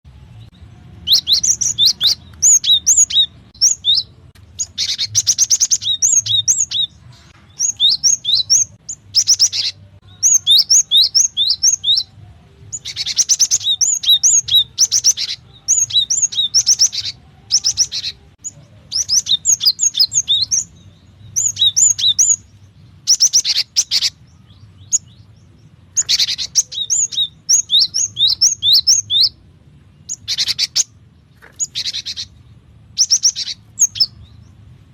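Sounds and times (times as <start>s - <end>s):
bird chirping: 0.1s - 34.9s
faint low hum: 0.1s - 34.9s.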